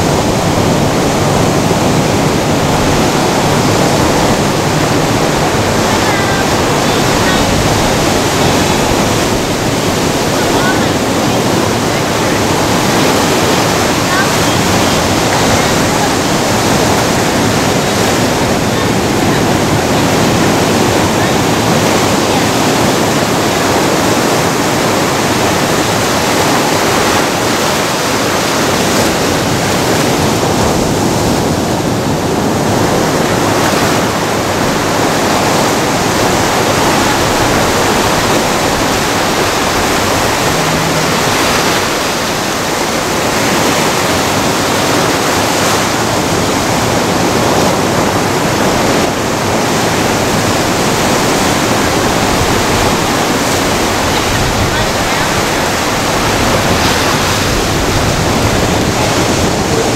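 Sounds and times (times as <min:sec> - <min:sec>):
waves breaking on rocks: 0:00.0 - 0:59.9.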